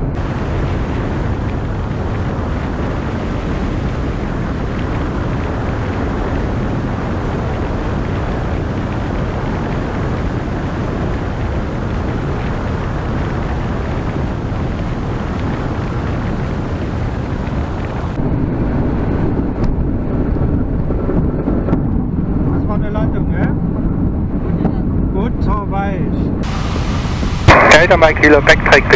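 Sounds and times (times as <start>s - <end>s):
light aircraft engine: 0.0s - 28.9s
wind buffeting microphone: 0.0s - 28.9s.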